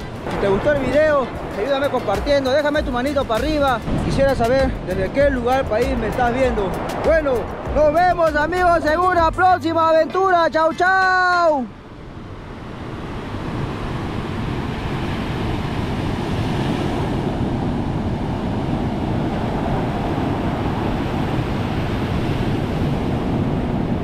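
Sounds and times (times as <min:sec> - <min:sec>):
wind on microphone: 0:00.0 - 0:09.3, 0:11.8 - 0:24.0.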